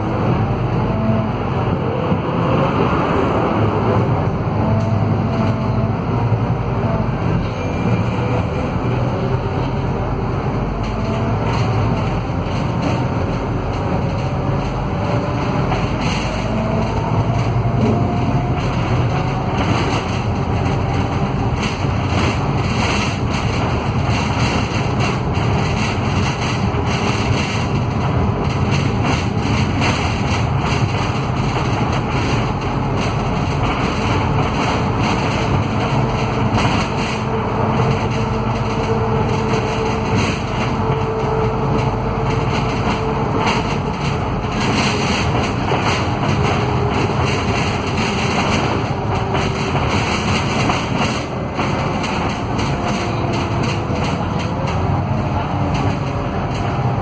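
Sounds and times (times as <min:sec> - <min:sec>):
diesel bus engine running: 0:00.0 - 0:57.0.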